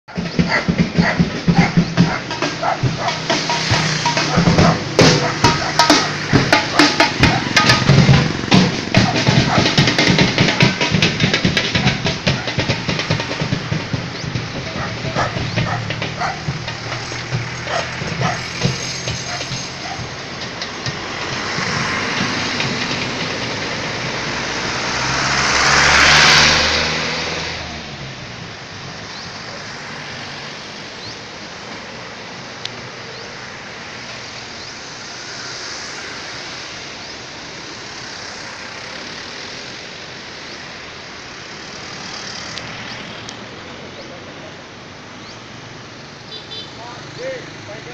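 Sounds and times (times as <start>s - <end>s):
bus engine humming: 0.0s - 46.6s
cars driving past: 0.1s - 47.9s.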